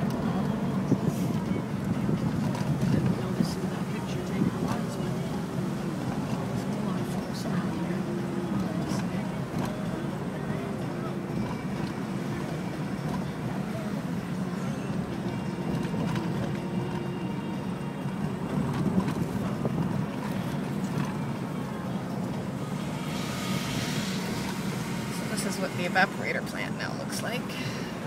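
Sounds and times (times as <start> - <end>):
car engine from inside cabin: 0.0 - 28.0
road rumble: 0.0 - 28.0.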